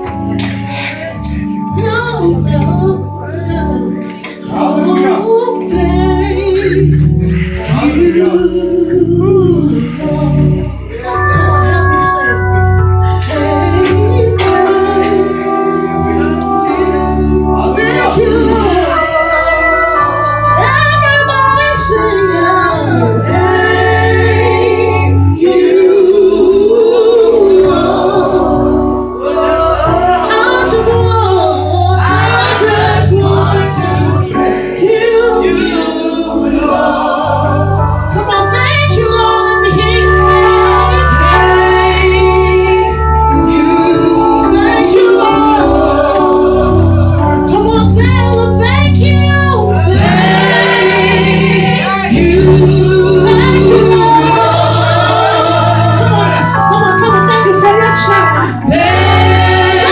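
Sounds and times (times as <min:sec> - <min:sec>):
gospel singing voices: 0:00.0 - 0:59.9
sustained bass and keyboard: 0:00.0 - 0:59.9.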